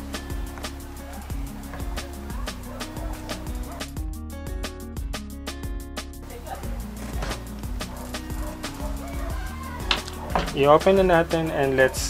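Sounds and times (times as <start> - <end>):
background music with steady beat: 0.0 - 12.0
held bass notes: 0.0 - 12.0.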